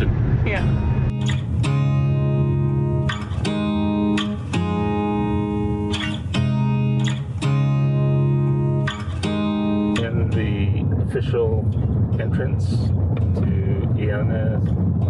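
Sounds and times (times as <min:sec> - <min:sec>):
guitar notes and chords: 0:00.0 - 0:15.0.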